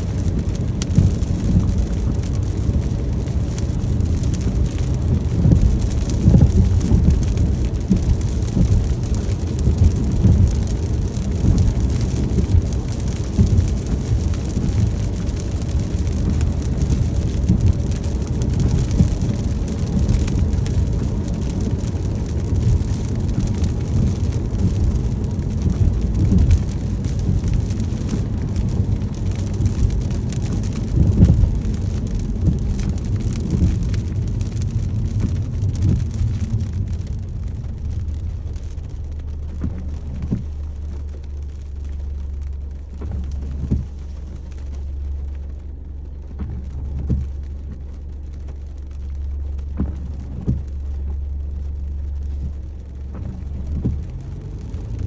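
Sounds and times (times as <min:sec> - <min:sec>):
rain falling on a car: 0:00.0 - 0:55.0
road rumble: 0:00.0 - 0:55.0.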